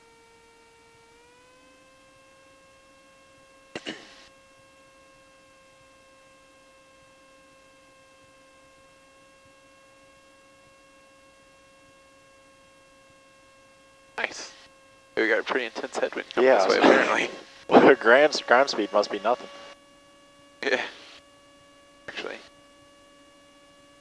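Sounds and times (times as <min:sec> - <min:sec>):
faint electrical whine: 0:00.0 - 0:24.0.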